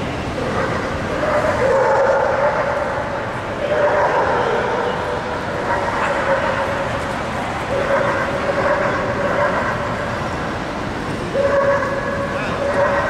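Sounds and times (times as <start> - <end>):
dogs barking and yipping: 0.3 - 10.5, 11.3 - 13.0.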